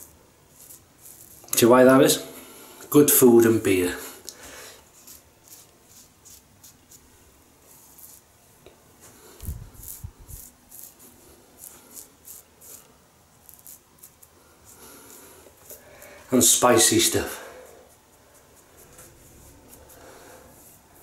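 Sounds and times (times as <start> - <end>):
razor scraping stubble: 0.0 - 2.2, 4.9 - 8.3, 9.1 - 21.0.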